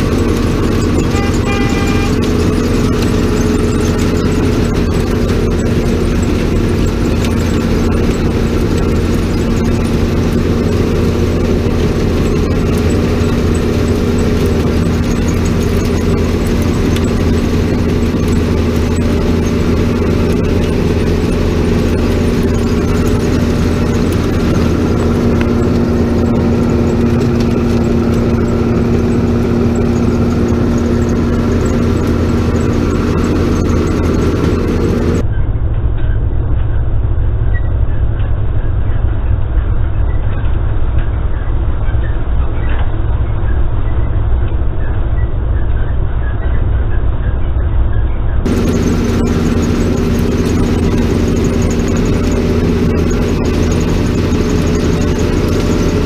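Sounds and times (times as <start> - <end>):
harvester engine humming: 0.0 - 56.0.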